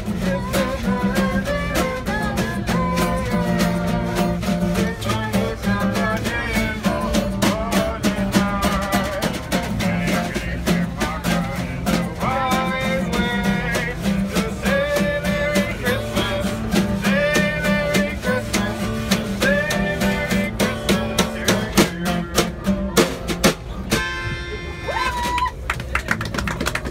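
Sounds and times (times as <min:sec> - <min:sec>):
acoustic guitar strumming: 0:00.0 - 0:25.3.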